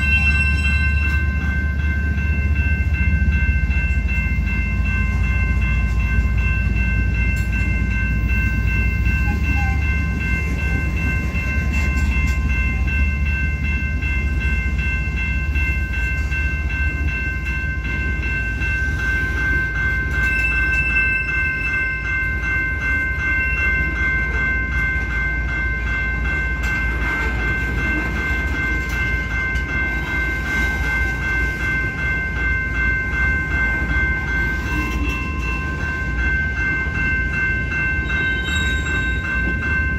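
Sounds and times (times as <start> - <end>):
freight train low rumble: 0.0 - 39.9.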